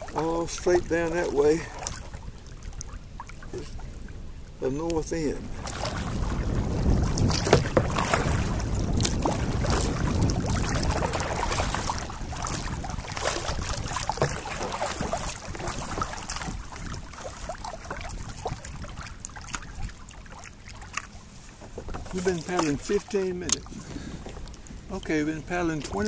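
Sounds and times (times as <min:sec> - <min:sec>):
moving water wash: 0:00.0 - 0:26.0
paddle strokes splashing: 0:00.0 - 0:26.0.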